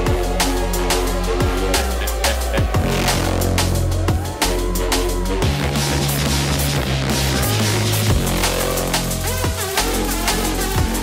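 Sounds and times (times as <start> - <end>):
heavy music with deep bass: 0.0 - 11.0.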